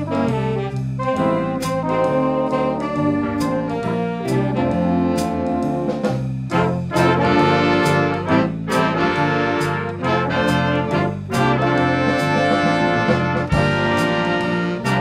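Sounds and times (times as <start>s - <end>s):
bass line: 0.0s - 15.0s
trumpets and trombones: 0.0s - 15.0s.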